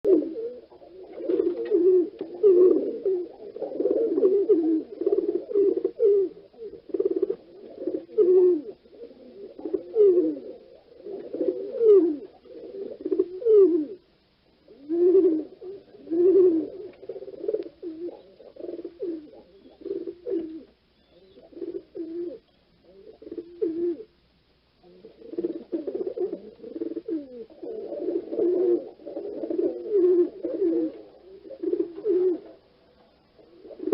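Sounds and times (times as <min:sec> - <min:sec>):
pigeons cooing: 0:00.0 - 0:24.2, 0:24.8 - 0:33.9.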